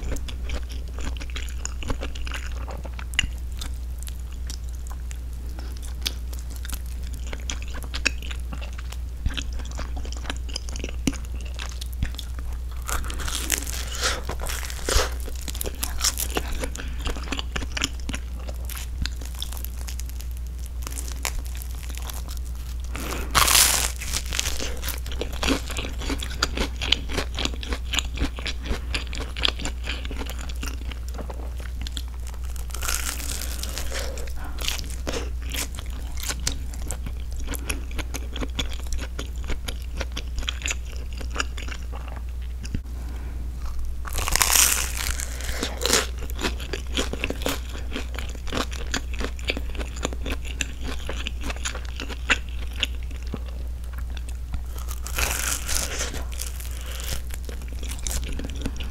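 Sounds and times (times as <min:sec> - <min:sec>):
chewing crunchy toasted bread: 0:00.0 - 0:58.9.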